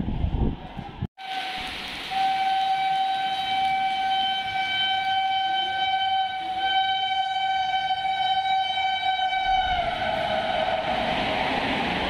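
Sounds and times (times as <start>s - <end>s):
locomotive horn long blast: 1.2s - 11.4s.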